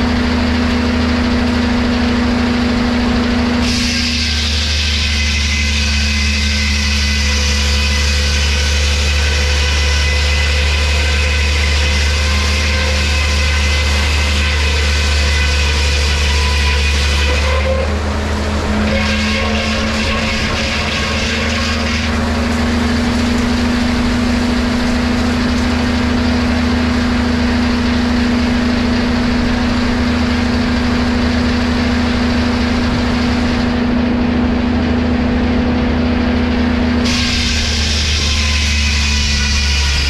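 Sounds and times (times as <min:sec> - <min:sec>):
lumber-milling machinery drone: 0:00.0 - 0:40.0.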